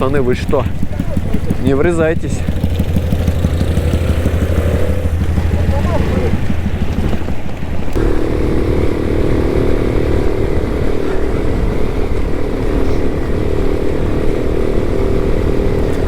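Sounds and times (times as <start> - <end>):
moped engine running: 0.0 - 16.0.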